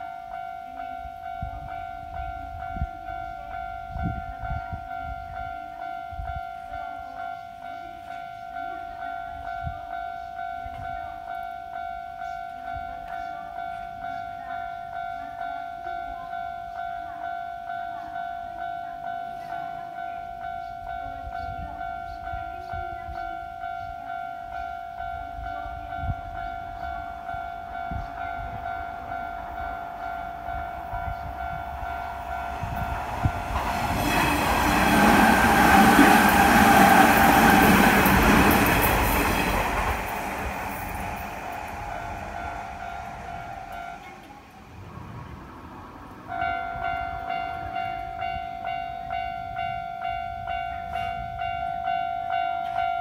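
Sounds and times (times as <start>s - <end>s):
level crossing bell ringing: 0.0s - 44.6s, 46.3s - 53.0s
electric train passing: 0.0s - 53.0s.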